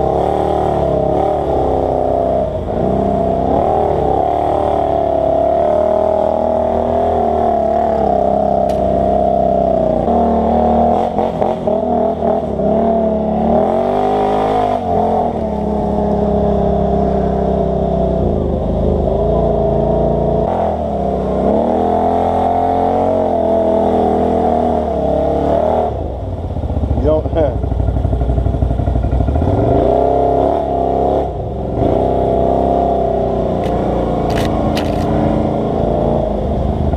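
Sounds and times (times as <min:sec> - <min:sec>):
atv engine revving: 0:00.0 - 0:36.9.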